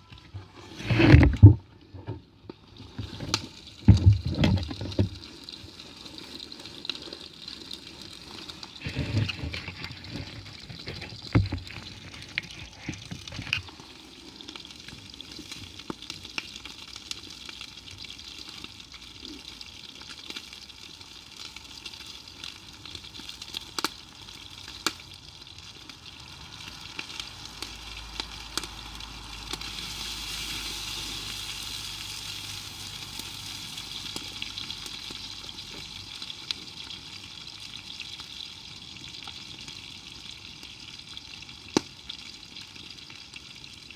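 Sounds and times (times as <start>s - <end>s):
fire crackling: 0.0s - 43.9s
food sizzling in a pan: 2.6s - 43.9s.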